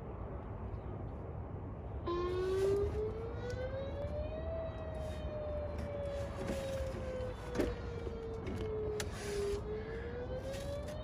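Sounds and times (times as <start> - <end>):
siren wailing: 2.0 - 11.0.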